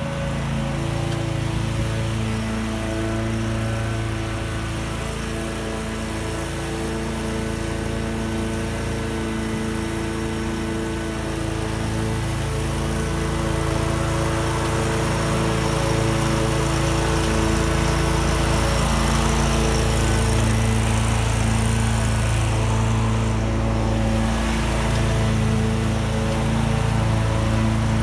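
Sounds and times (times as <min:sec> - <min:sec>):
lawn mower running: 0:00.0 - 0:28.0.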